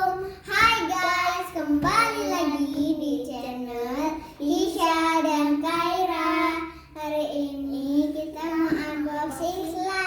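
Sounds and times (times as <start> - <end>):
child singing: 0.0 - 10.0.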